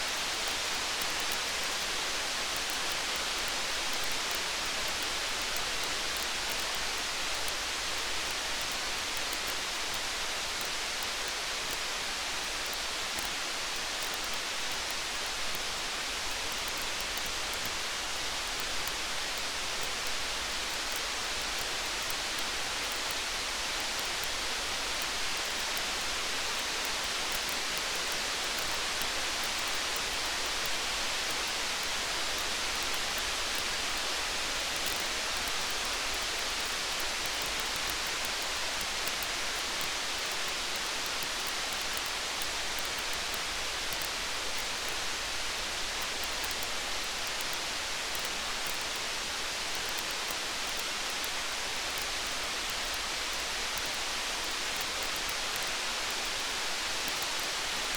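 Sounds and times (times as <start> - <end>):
steady rain falling: 0.0 - 57.9
faint small crackles: 0.1 - 57.9.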